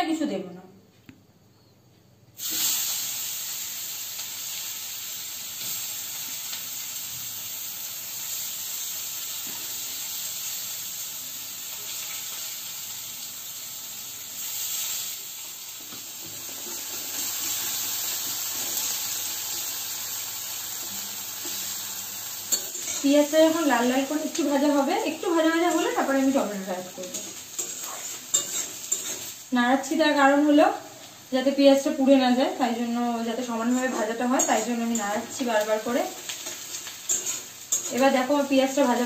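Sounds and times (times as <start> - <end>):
onion sizzling in hot oil: 2.4 - 39.0.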